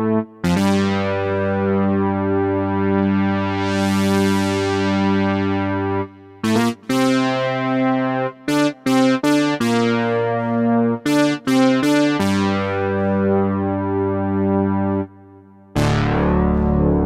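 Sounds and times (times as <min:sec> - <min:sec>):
synthesizer chord stabs: 0:00.0 - 0:17.0.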